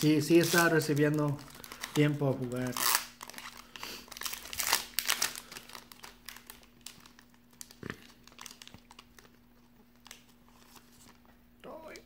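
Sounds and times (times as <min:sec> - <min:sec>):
cellophane wrapper crinkling: 0:00.0 - 0:11.2.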